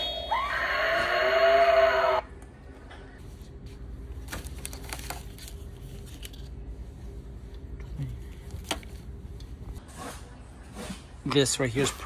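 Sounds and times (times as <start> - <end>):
indoor background hum: 0.0 - 12.0.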